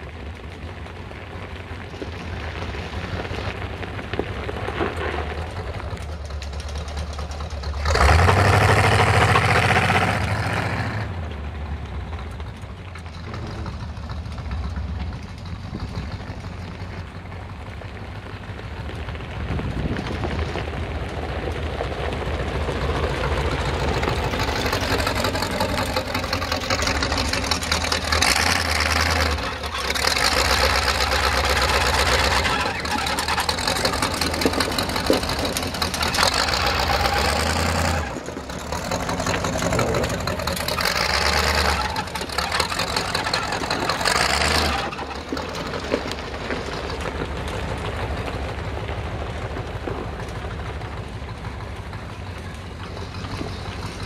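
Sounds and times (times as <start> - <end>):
truck engine revving: 0.8 - 54.0.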